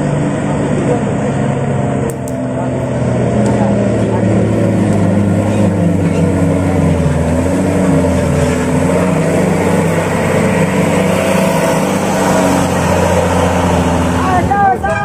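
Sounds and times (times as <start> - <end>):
bus engine labouring: 0.0 - 15.0.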